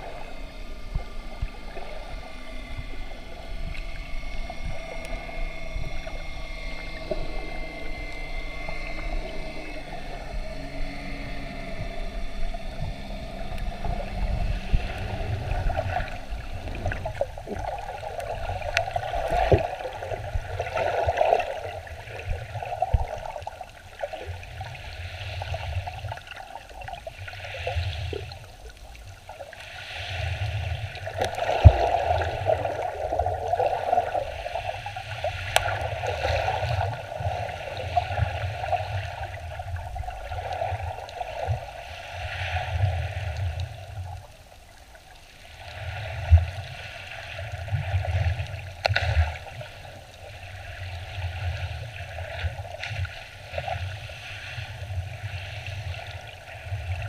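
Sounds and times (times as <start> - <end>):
underwater rumble of surging water: 0.0 - 57.0.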